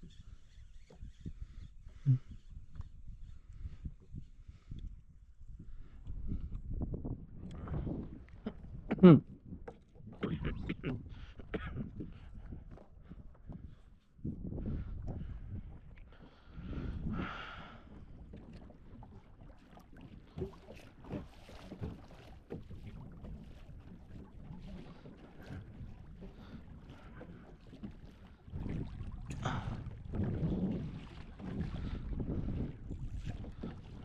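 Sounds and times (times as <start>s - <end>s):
water lapping around canoe: 0.0s - 34.0s
wind buffeting microphone: 1.0s - 19.6s, 20.4s - 34.0s.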